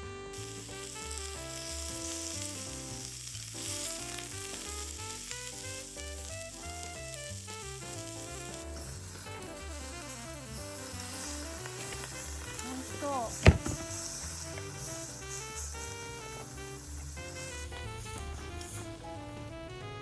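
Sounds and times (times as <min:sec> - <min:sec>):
instrumental background music: 0:00.0 - 0:20.0
food sizzling in a pan: 0:00.3 - 0:18.9.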